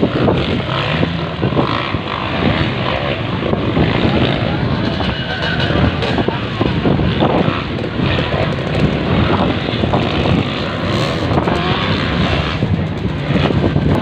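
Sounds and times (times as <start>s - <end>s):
dirt bike engines racing: 0.0s - 14.0s.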